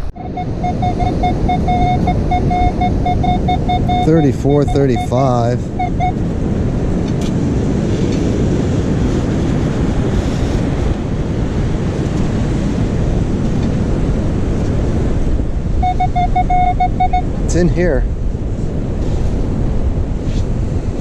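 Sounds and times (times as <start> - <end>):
surf washing on beach: 0.0 - 21.0
wind buffeting microphone: 0.0 - 21.0.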